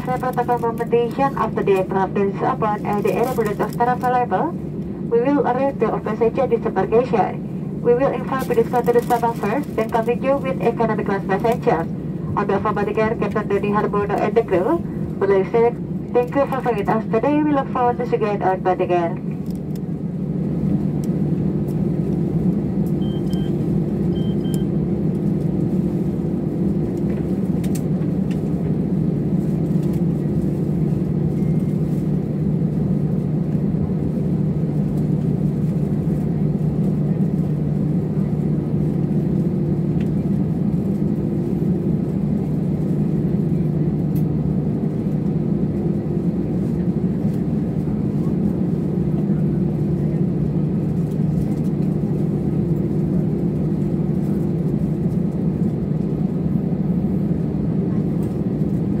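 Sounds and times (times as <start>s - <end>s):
jet cabin engine hum: 0.0s - 59.0s.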